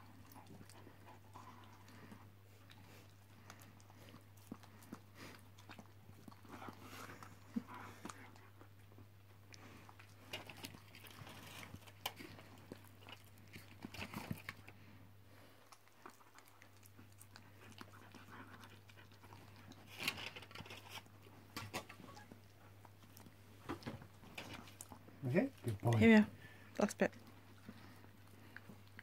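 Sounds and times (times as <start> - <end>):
dog crunching food: 0.0 - 26.2.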